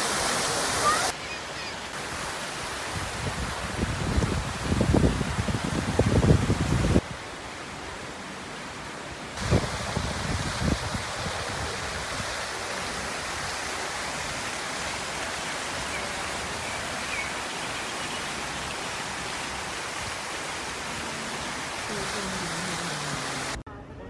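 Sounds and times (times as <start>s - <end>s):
fountain water splashing: 0.0s - 23.6s.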